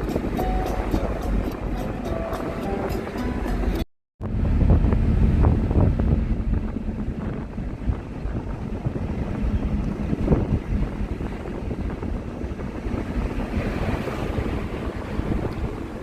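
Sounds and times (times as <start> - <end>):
car road noise rumble: 0.0 - 16.0
wind buffeting microphone: 0.0 - 16.0.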